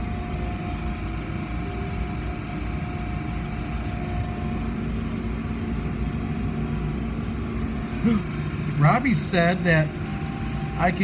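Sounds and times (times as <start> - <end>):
faint machinery hum: 0.0 - 11.0.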